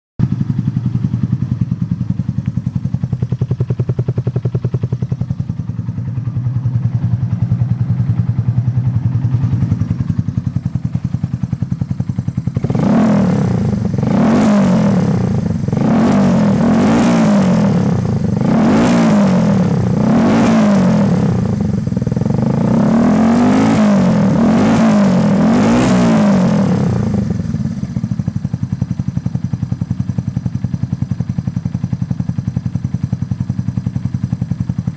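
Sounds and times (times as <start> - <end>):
motorcycle engine idling and revving: 0.2 - 34.9.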